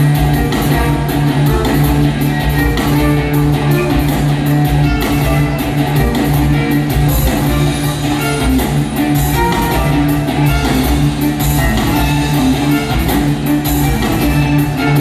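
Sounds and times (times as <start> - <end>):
loud guitar music with heavy bass: 0.0 - 15.0.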